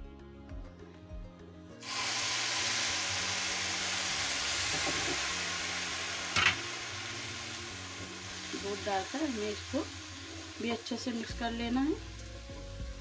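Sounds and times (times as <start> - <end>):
milk sizzling in a hot pan: 1.8 - 13.0.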